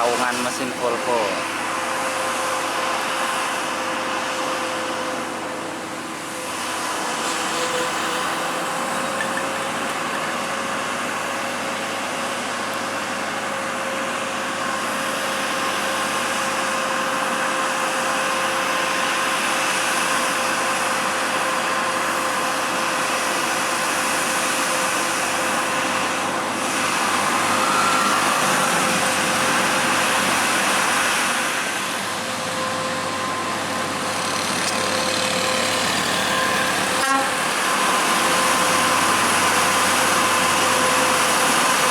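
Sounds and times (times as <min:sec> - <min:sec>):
truck diesel engine labouring: 0:00.0 - 0:41.9.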